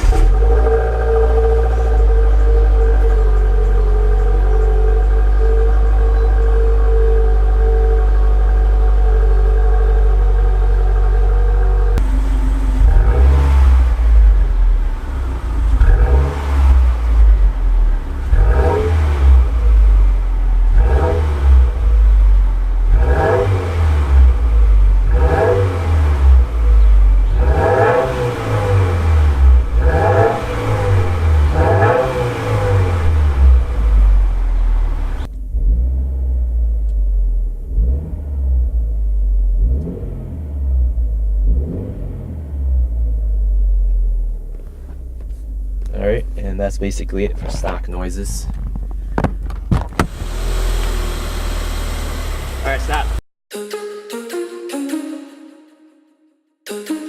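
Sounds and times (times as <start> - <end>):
car engine revving: 0.0 - 53.2.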